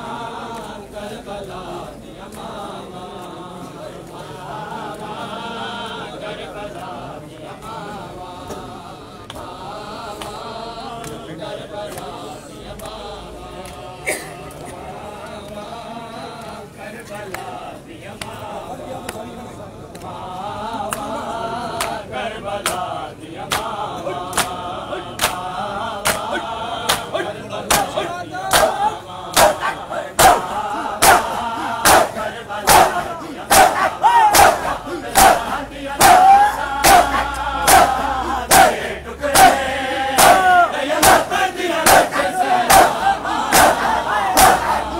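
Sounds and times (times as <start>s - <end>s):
crowd chanting: 0.0s - 44.9s
men slapping chests rhythmically: 0.0s - 44.9s.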